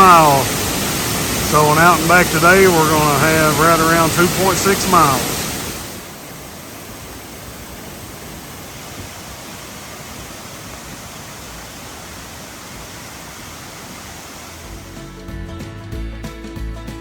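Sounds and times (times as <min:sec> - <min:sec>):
waterfall rushing: 0:00.0 - 0:15.2.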